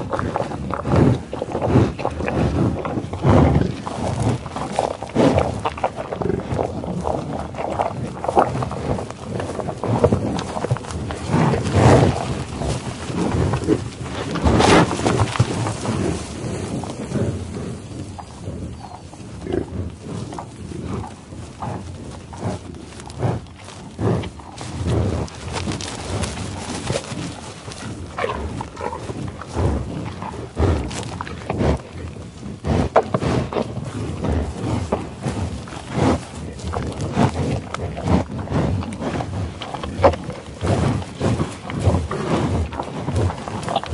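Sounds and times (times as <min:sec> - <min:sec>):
bison sniffing and snuffling: 0:00.0 - 0:43.9
buffalo chewing: 0:00.0 - 0:43.9.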